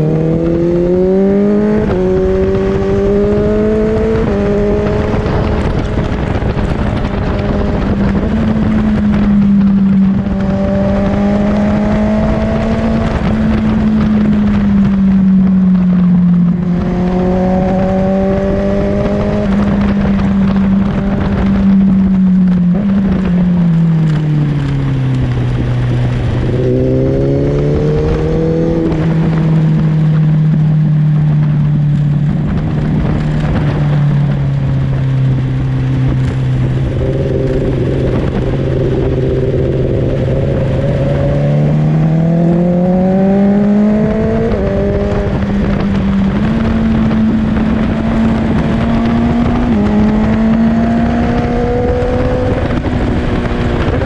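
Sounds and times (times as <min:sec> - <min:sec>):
sport bike engine: 0:00.0 - 0:54.0
wind rush on microphone: 0:00.0 - 0:54.0.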